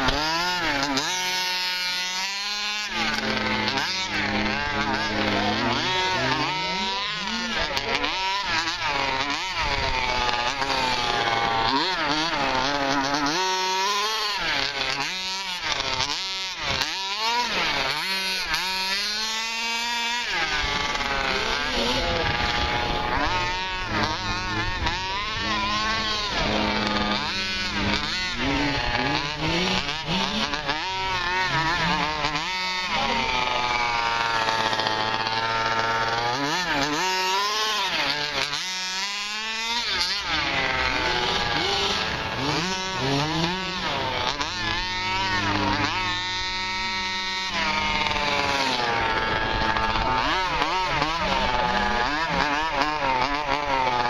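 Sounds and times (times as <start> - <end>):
rc buggy engine revving: 0.0 - 54.0.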